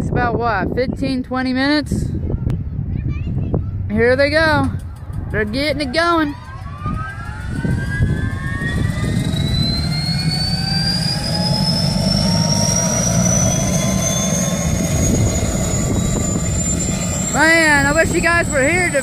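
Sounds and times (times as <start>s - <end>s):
low rotor rumble: 0.0s - 19.0s
helicopter engine whine rising: 3.7s - 19.0s.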